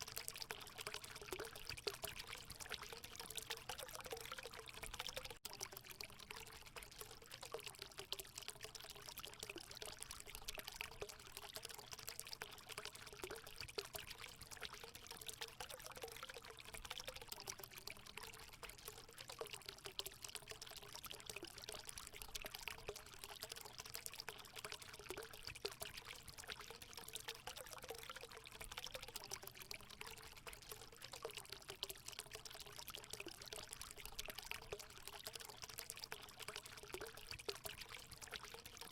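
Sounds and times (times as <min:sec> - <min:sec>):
water pouring into a pool: 0:00.0 - 0:38.9.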